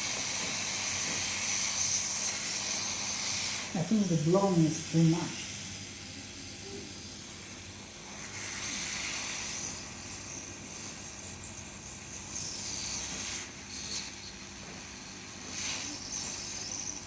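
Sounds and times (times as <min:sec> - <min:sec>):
hot air blower hissing: 0:00.0 - 0:17.0.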